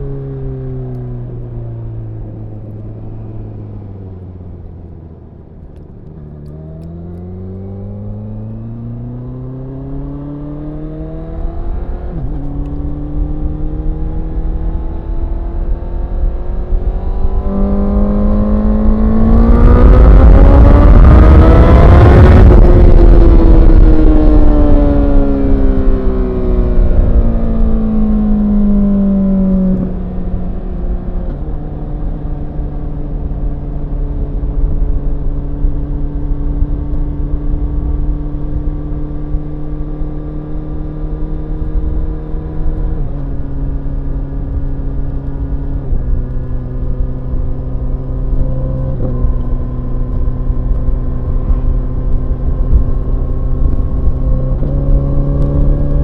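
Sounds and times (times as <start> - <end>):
motorcycle engine revving: 5.9 - 56.0.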